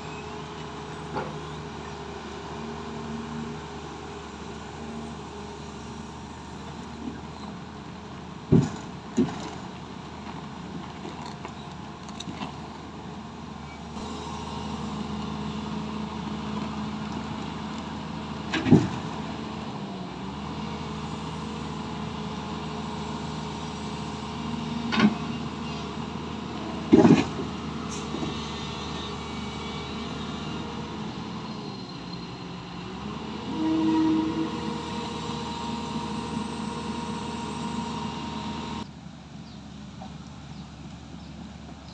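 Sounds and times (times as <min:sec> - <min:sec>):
excavator diesel engine: 0:00.0 - 0:41.9.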